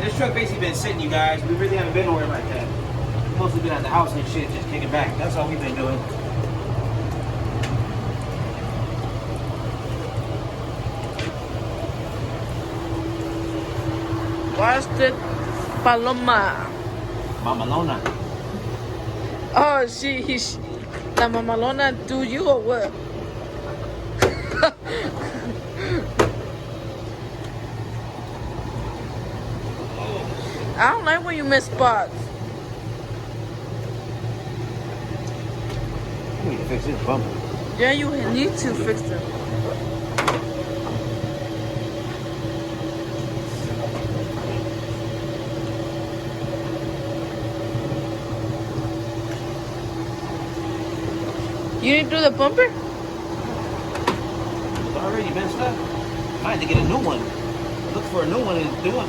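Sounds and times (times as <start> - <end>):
low motor hum: 0.0 - 59.0.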